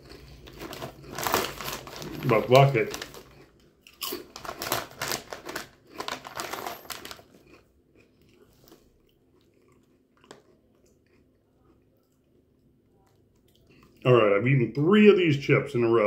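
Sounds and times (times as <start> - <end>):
potato chips crunching: 0.0 - 14.1.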